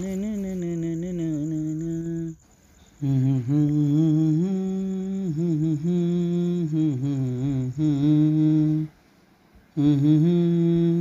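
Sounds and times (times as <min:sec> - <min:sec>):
man humming a slow melody: 0:00.0 - 0:09.0, 0:09.7 - 0:11.0.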